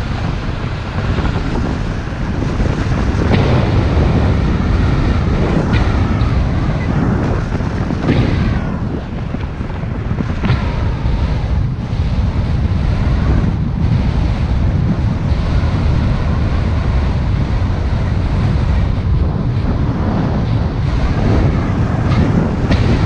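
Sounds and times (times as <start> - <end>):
car and tyres rumbling on road: 0.0 - 23.0
wind buffeting microphone: 0.0 - 23.0.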